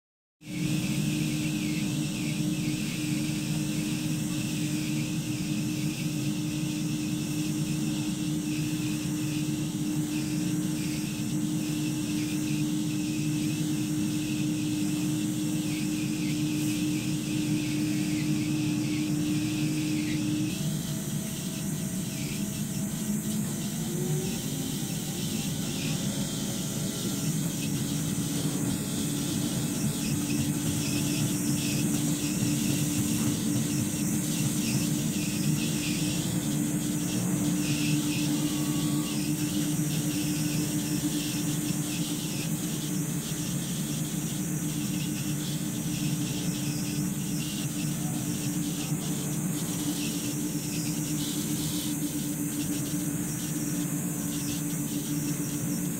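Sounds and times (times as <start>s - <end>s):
cutting machine low hum: 0.4s - 55.9s
machine high-pitched whine: 0.4s - 55.9s.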